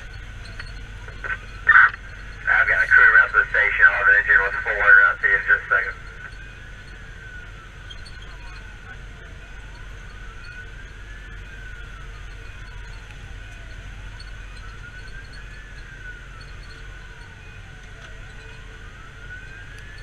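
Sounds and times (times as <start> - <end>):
engine and road rumble: 0.0 - 20.0
fire engine siren wailing: 0.0 - 20.0.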